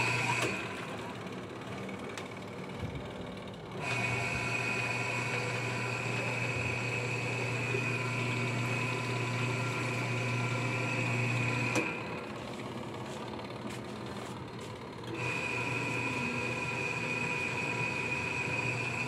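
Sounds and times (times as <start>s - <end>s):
washing machine motor running: 0.0s - 19.0s.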